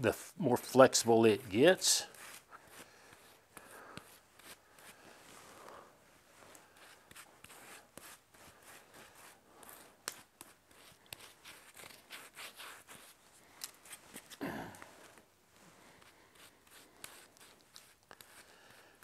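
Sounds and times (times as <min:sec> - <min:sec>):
scratchy brush strokes on wood: 0:00.0 - 0:14.4, 0:15.6 - 0:19.0.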